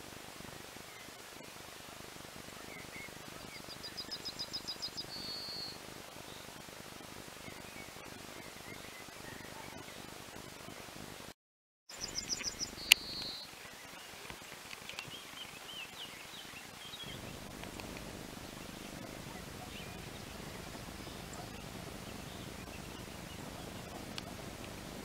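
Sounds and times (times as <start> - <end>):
background hiss: 0.0 - 25.0
bird song: 2.6 - 6.6, 7.4 - 10.8, 11.9 - 25.0.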